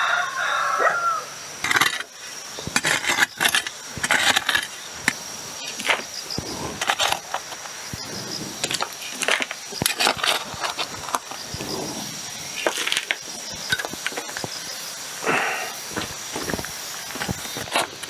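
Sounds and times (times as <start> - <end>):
dirt rattling into plastic bucket: 1.6 - 14.6, 15.9 - 18.0
hand pick scraping soil: 1.6 - 14.6, 15.2 - 18.0.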